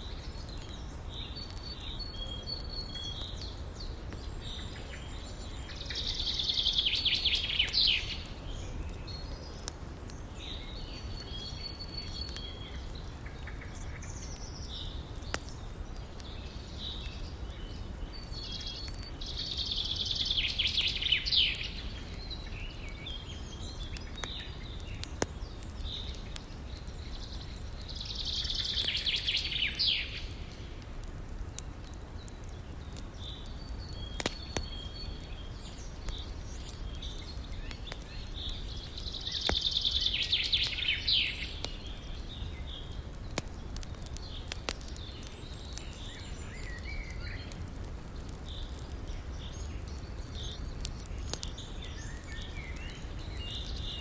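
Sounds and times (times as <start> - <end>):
songbird singing: 0.0 - 30.9, 31.8 - 54.0
campfire pops: 0.0 - 54.0.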